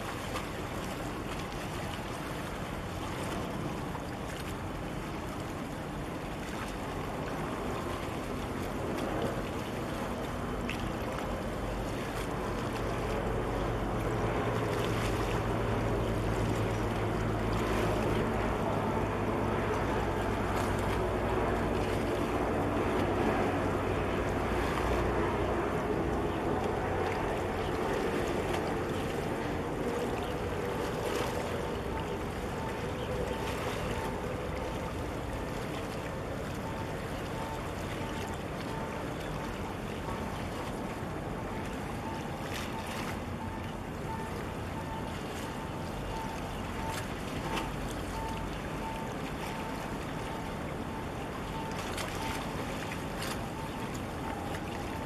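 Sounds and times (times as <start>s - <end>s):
ship engine hum: 0.0s - 55.0s.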